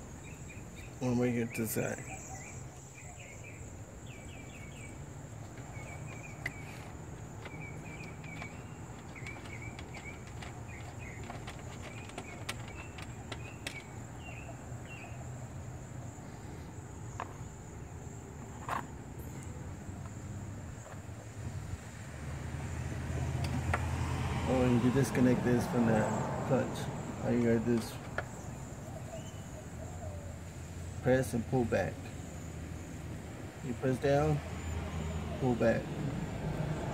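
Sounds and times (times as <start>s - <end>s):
insect chirps: 0.0s - 35.3s.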